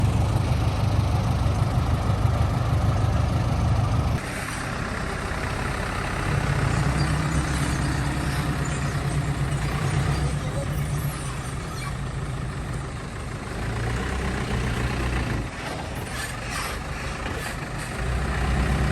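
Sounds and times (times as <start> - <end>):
heavy machinery diesel engine rumble: 0.0 - 18.9.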